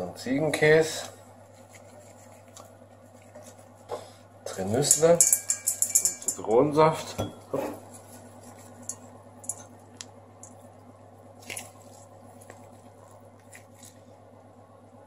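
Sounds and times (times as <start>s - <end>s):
faint low hum: 0.0s - 15.0s
squishing food filling: 0.5s - 6.5s, 7.8s - 15.0s.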